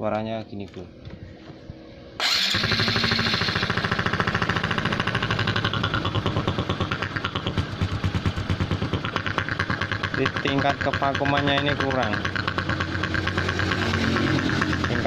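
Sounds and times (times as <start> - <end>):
motorcycle engine idling roughly: 2.2 - 15.0.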